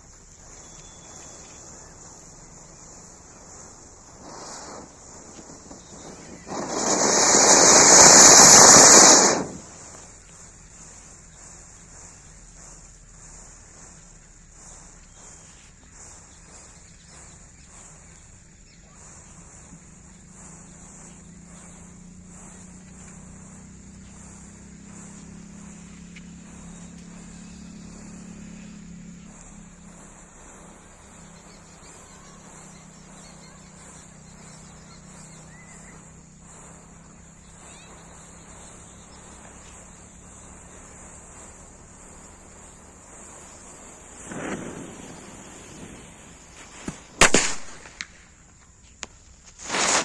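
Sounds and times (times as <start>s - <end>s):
insects chirring: 0.0s - 50.0s
low hum: 7.7s - 47.8s.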